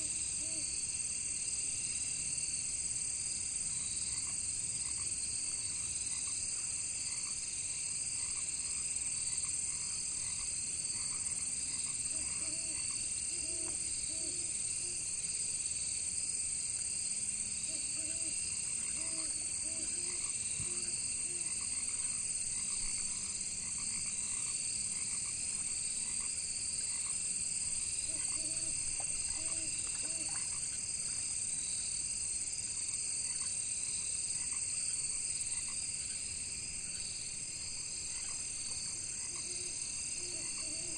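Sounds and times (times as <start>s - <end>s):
crickets and insects chirping: 0.0s - 40.9s
frogs croaking: 3.8s - 15.0s, 17.6s - 40.9s.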